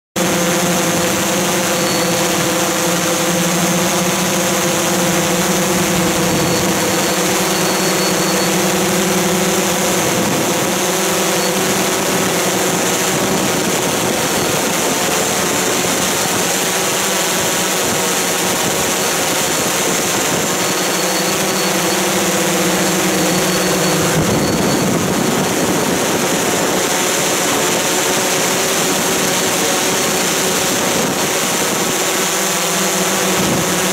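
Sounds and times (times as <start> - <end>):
drone motors buzzing: 0.2 - 33.9.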